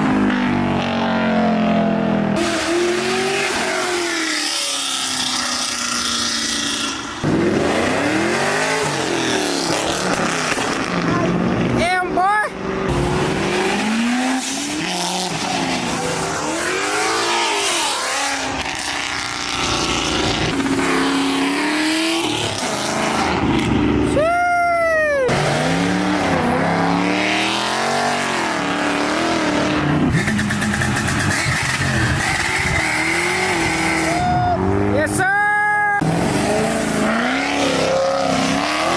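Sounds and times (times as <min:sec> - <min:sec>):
car engines revving hard: 0:00.0 - 0:35.2, 0:36.0 - 0:38.9.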